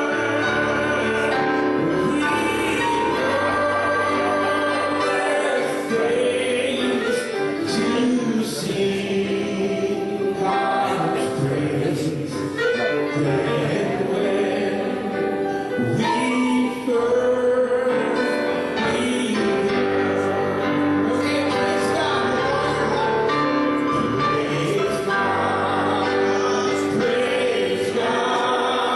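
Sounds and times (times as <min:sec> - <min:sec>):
choir singing gospel music: 0:00.0 - 0:28.9.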